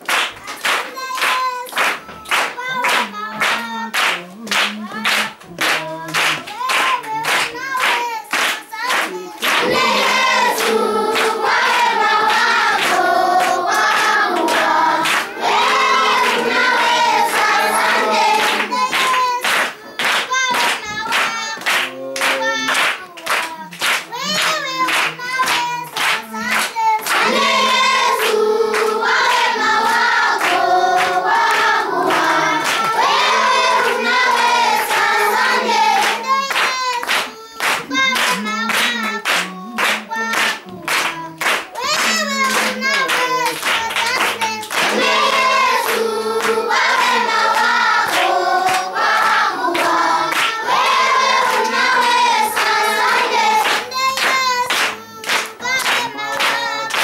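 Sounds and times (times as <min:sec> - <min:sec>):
children singing: 0:00.0 - 0:57.0
hands clapping in rhythm: 0:00.0 - 0:57.0.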